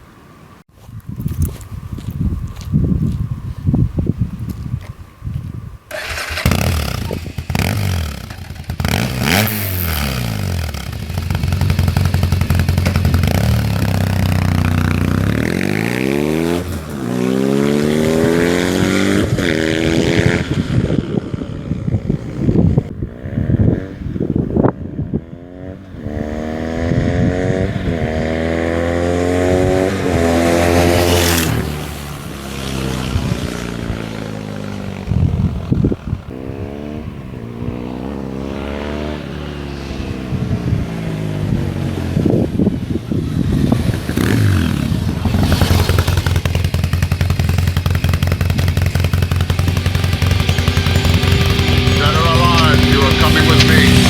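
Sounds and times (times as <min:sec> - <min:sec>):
motorcycle engine revving: 0:05.9 - 0:54.0.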